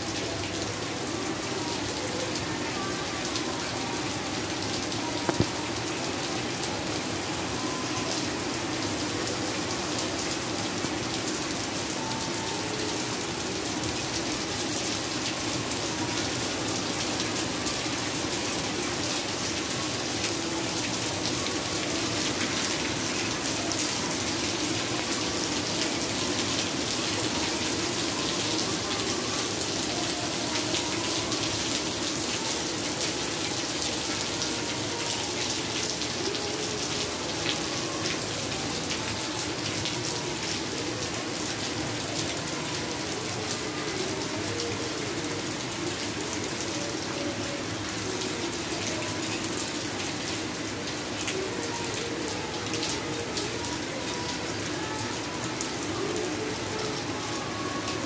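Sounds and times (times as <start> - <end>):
heavy rain splashing on tiles: 0.0 - 58.0.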